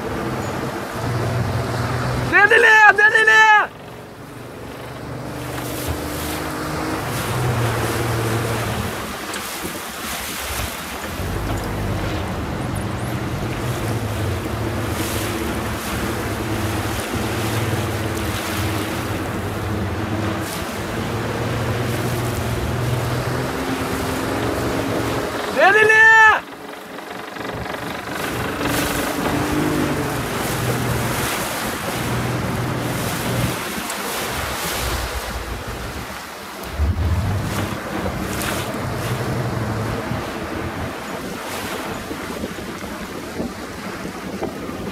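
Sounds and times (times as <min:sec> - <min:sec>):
motorboat engine hum: 0:00.0 - 0:44.9
sea waves splashing: 0:00.0 - 0:44.9
wind buffeting microphone: 0:03.8 - 0:44.9.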